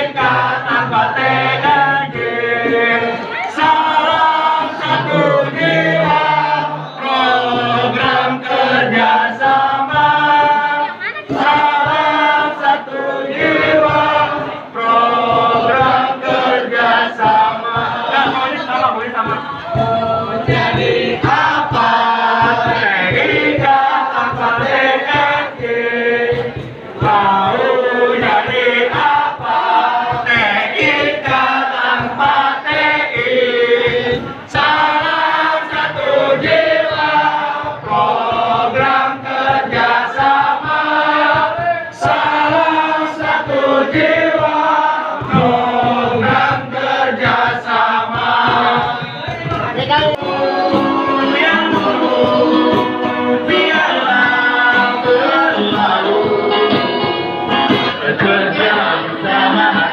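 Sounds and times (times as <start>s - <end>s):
crowd singing a cheer song: 0.0s - 59.9s.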